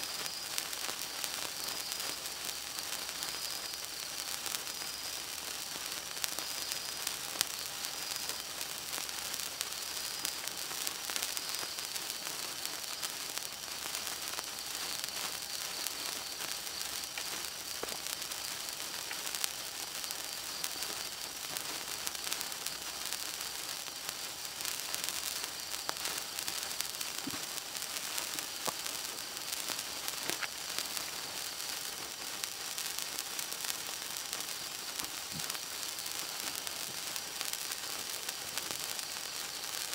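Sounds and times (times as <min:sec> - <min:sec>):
sparkler hissing and crackling: 0:00.0 - 0:39.9.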